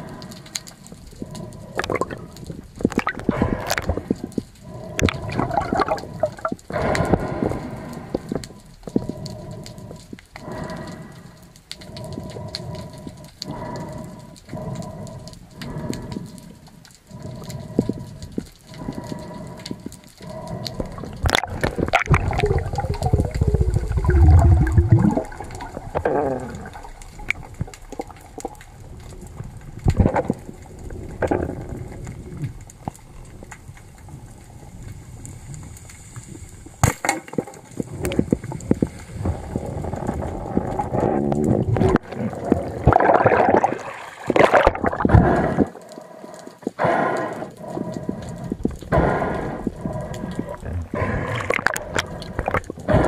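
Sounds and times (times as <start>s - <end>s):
water sloshing and gurgling: 0.0s - 53.0s.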